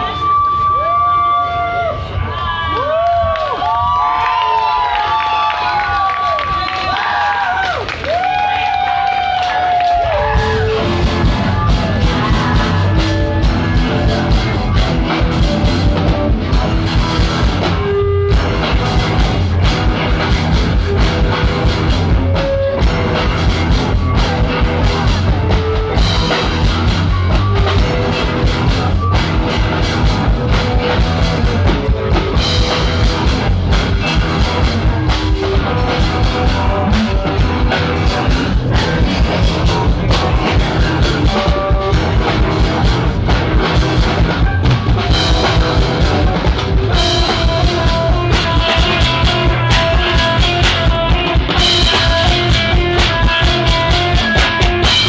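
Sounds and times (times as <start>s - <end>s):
electric guitar: 5.7s - 55.0s
drum-kit beat: 7.6s - 55.0s.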